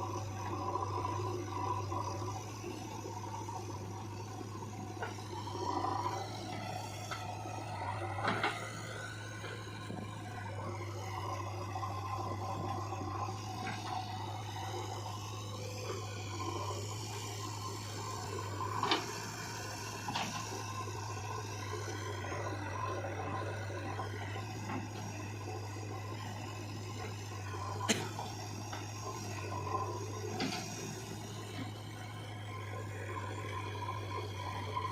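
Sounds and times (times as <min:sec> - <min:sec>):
motor whining: 0:00.0 - 0:34.9.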